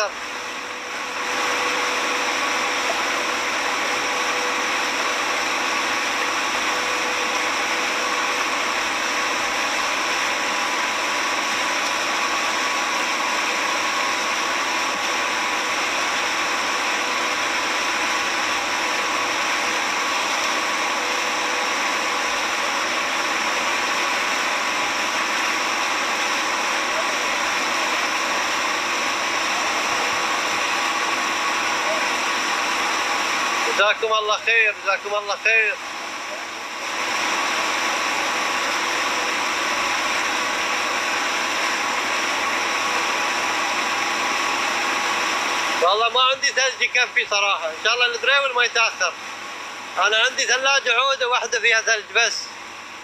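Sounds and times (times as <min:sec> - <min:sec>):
whirring machine with whine: 0:00.0 - 0:53.0.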